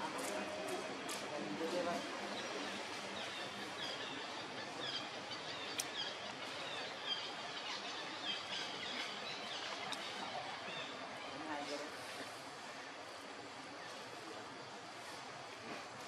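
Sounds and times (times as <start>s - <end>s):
birds chirping: 0.0s - 14.4s
steady background hiss: 0.0s - 16.0s.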